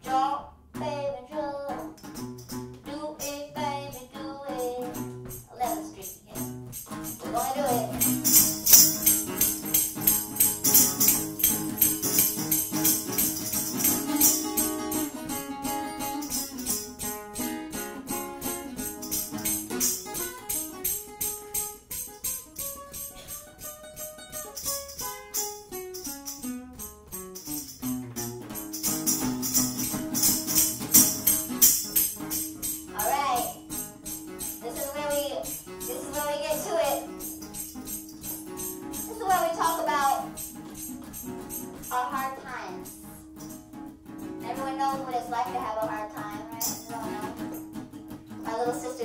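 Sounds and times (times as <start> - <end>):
jangling hand percussion: 1.7 - 49.0.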